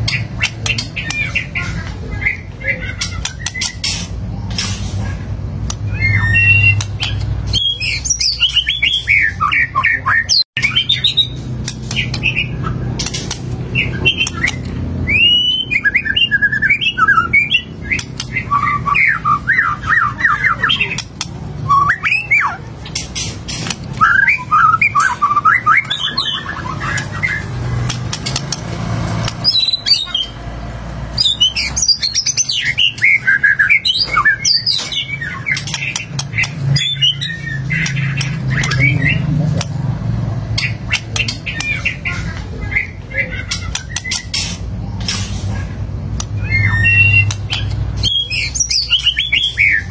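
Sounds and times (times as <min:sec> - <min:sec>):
bird singing: 0:00.0 - 0:04.6, 0:05.6 - 0:30.5, 0:31.1 - 0:49.9.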